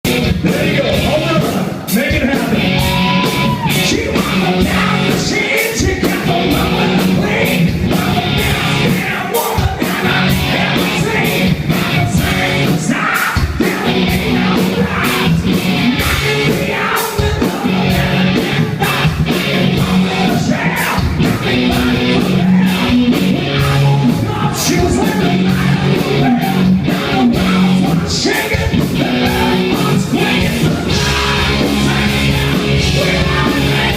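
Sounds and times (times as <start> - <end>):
drums beating: 0.0 - 33.9
loud electric guitars: 0.0 - 33.9
person singing and yelling: 0.2 - 33.9.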